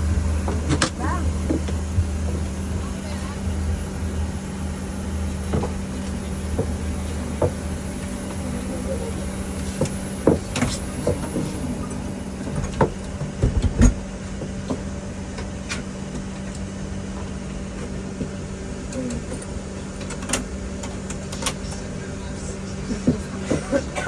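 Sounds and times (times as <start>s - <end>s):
airliner cabin hum: 0.0s - 24.0s.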